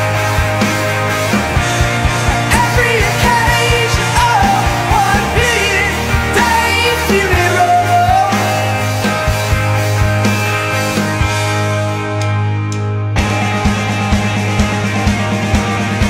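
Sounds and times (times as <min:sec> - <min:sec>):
bending lead guitar line: 0:00.0 - 0:16.0
distorted bass: 0:00.0 - 0:16.0
driving drum beat: 0:00.0 - 0:16.0.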